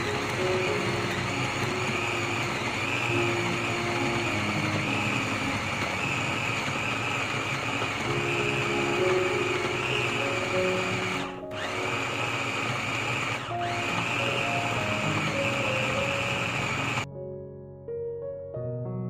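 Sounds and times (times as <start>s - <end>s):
food chopper grinding: 0.0s - 17.1s.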